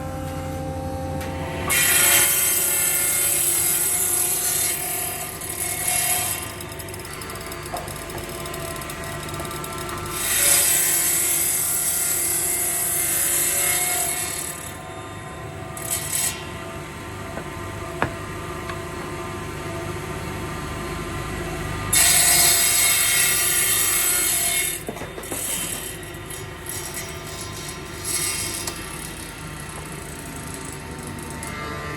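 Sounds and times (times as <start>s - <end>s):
machine hum with fixed tones: 0.0s - 31.9s.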